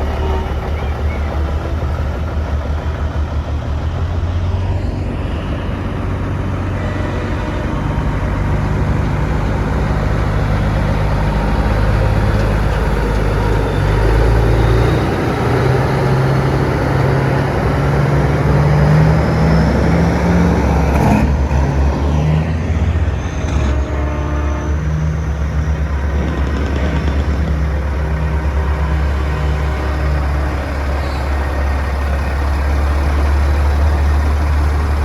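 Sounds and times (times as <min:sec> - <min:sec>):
truck diesel engines passing: 0:00.0 - 0:35.0.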